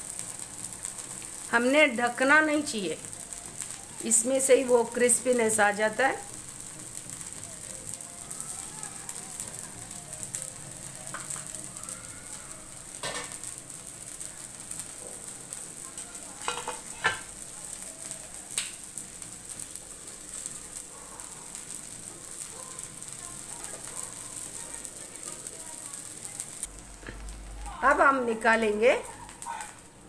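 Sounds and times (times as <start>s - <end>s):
batter sizzling in oil: 0.0s - 30.0s.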